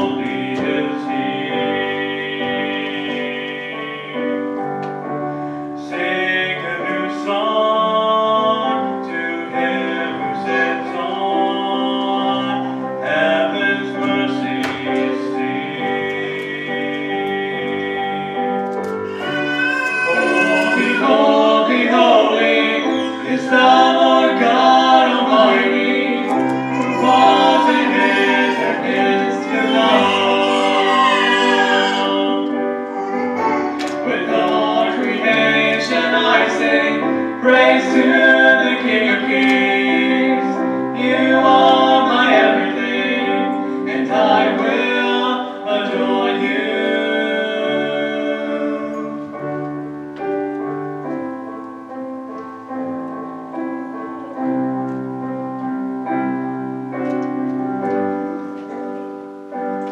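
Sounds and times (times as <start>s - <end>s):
electric keyboard: 0.0s - 59.9s.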